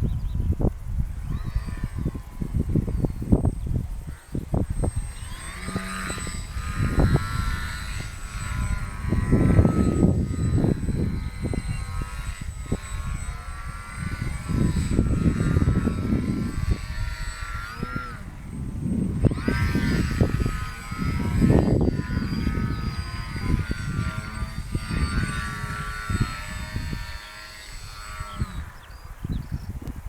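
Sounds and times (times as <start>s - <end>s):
model plane motor whining: 0.0s - 30.0s
wind buffeting microphone: 0.0s - 30.0s.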